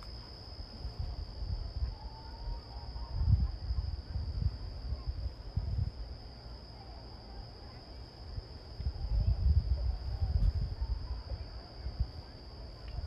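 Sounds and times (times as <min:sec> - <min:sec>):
wind rumble on microphone: 0:00.0 - 0:07.0, 0:07.6 - 0:13.0
insects chirring: 0:00.0 - 0:13.0.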